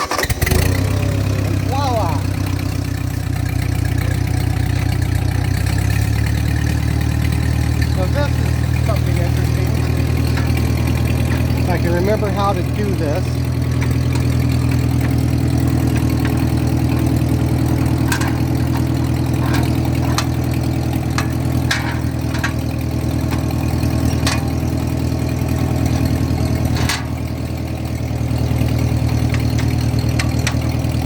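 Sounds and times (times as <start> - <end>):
tractor engine fast idle: 0.0 - 31.0.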